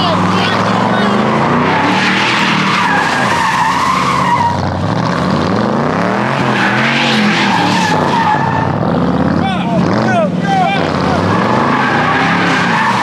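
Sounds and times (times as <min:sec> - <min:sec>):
tyres squealing: 0:00.0 - 0:05.4, 0:06.3 - 0:13.0
car engine revving: 0:00.0 - 0:13.0.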